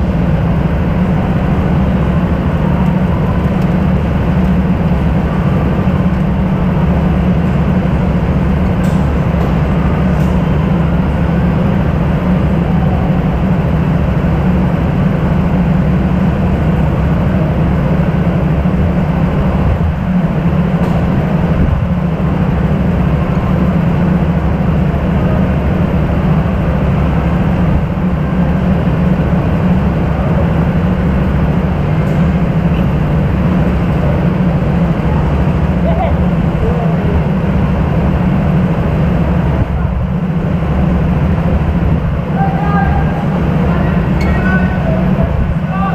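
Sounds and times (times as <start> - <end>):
constant rushing noise: 0.0 - 45.9
go-kart engine humming: 0.0 - 45.9.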